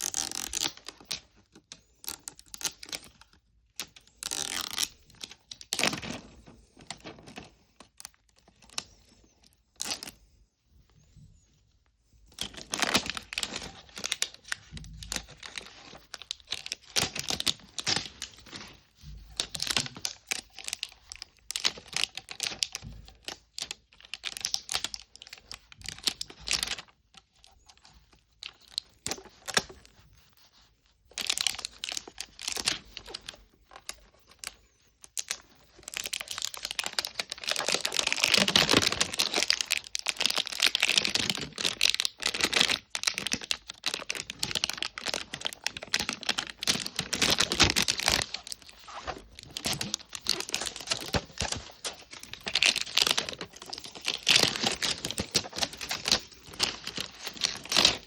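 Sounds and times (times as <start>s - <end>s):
packaging crinkling and tearing: 0.0s - 9.0s, 9.8s - 10.1s, 12.3s - 27.8s, 28.4s - 30.0s, 30.6s - 58.0s.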